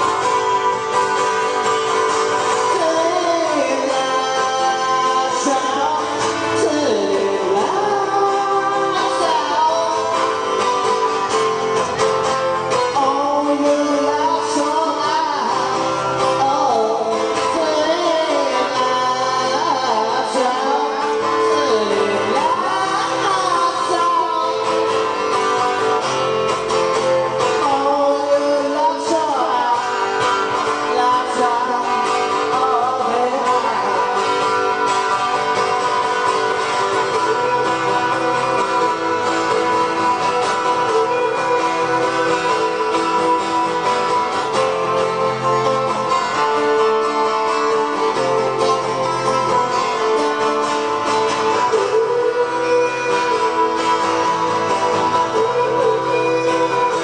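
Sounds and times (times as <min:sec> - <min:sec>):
acoustic guitar playing: 0:00.0 - 0:57.0
person singing: 0:00.0 - 0:57.0.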